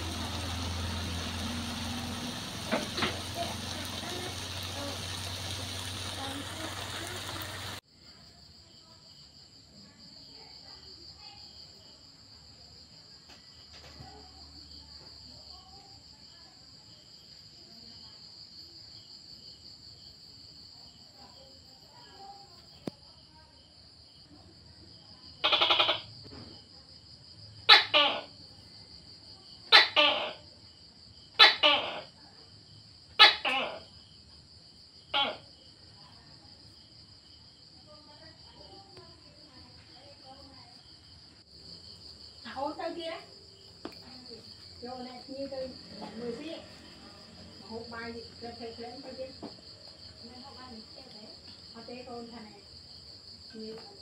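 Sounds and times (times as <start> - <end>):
insects trilling: 0.0 - 24.3, 25.0 - 54.0.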